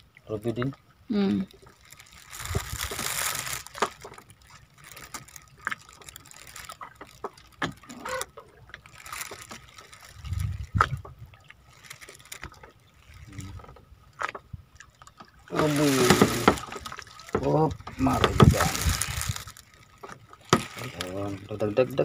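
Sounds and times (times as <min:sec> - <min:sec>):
water sloshing against boat: 0:00.0 - 0:22.0.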